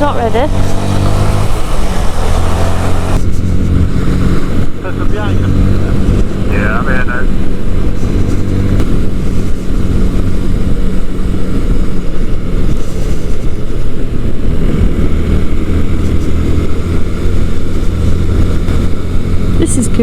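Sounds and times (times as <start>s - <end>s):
motorcycle engine running: 0.0s - 20.0s
riding noise: 0.0s - 20.0s.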